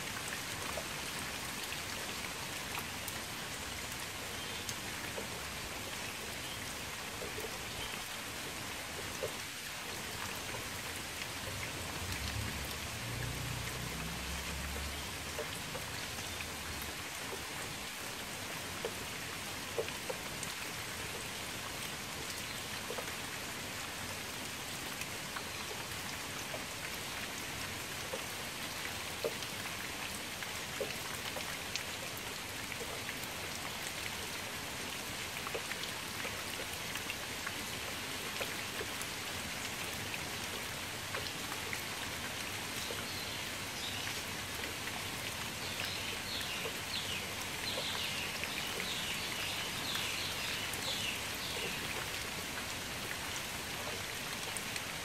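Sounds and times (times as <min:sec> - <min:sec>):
rain falling on water: 0:00.0 - 0:55.0.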